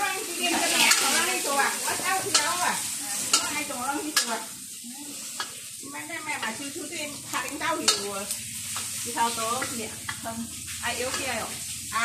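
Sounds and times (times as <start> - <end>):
food sizzling: 0.0 - 12.0
utensil scraping in a wok: 0.0 - 12.0.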